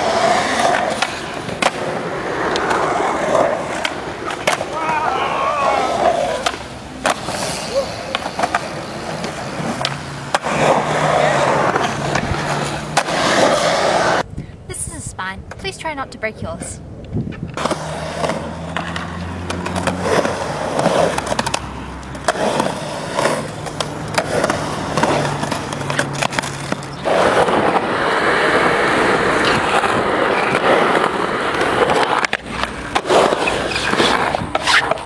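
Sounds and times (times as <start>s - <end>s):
skateboard wheels rolling on concrete: 0.0s - 14.6s, 15.3s - 35.0s.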